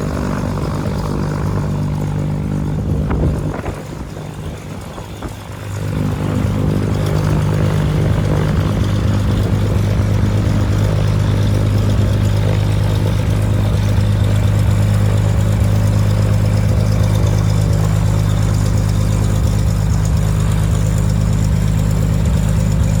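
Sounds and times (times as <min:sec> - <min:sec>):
propeller aircraft engine running: 0:00.0 - 0:23.0.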